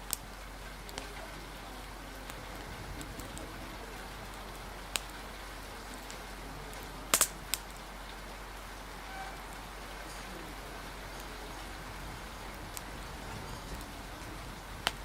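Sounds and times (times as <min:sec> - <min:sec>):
rain hiss: 0:00.0 - 0:15.0
wood fire crackling: 0:00.0 - 0:15.0.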